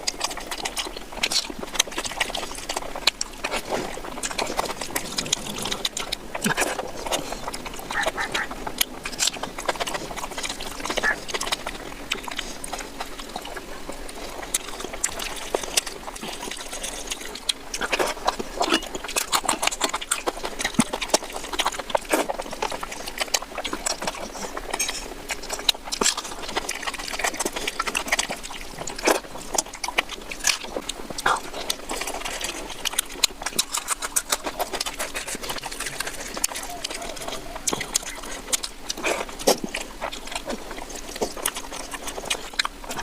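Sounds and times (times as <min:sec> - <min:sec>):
person chewing and lip-smacking: 0:00.0 - 0:43.0.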